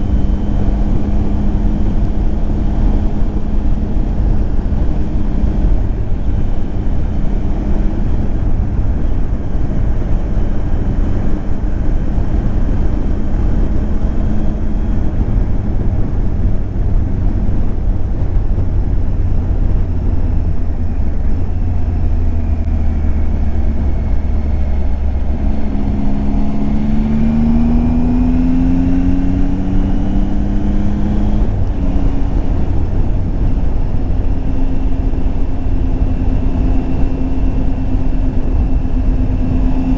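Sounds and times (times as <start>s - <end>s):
motorcycle engine running: 0.0s - 39.9s
riding wind rushing: 0.0s - 39.9s.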